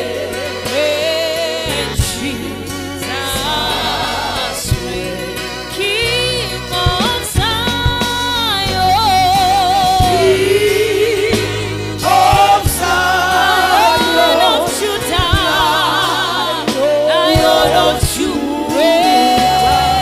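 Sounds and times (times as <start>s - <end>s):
low instrumental backing: 0.0s - 20.0s
voices singing gospel: 0.0s - 20.0s.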